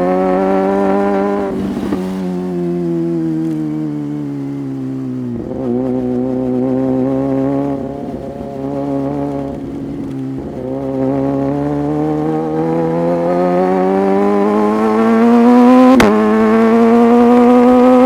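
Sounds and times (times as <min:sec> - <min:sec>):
motorbike engine accelerating: 0:00.0 - 0:18.0.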